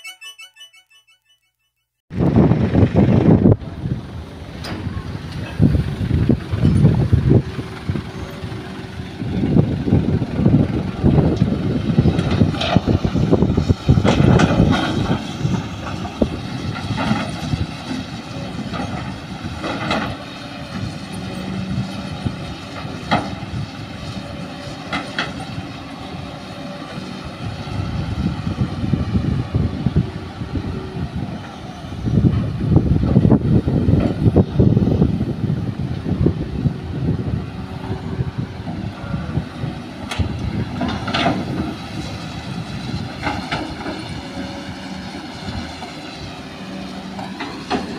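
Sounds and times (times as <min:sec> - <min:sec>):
excavator and truck engines running: 0:02.1 - 0:47.9.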